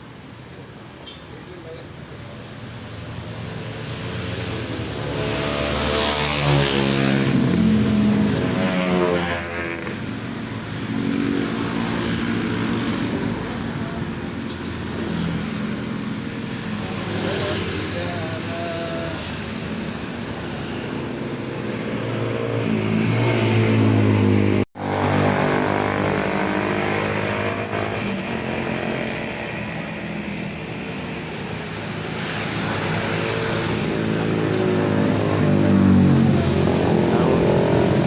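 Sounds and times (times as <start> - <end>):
motorcycle engine revving: 3.4 - 38.0.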